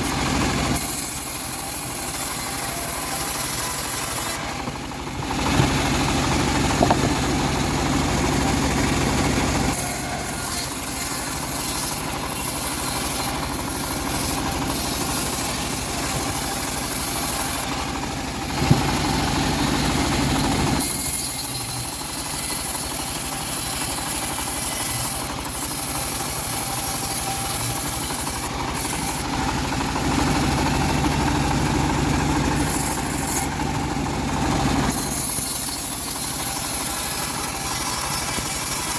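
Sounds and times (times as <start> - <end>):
bandsaw sawing wood: 0.0 - 38.9.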